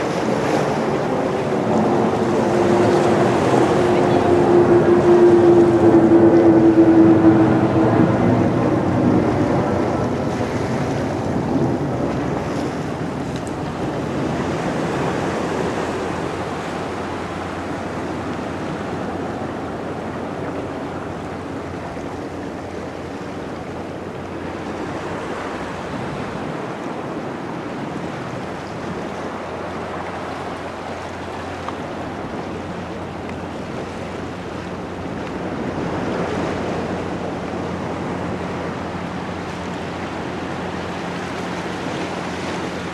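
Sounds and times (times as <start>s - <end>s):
ocean surf washing onto beach: 0.0s - 42.9s
wind on microphone: 0.0s - 42.9s.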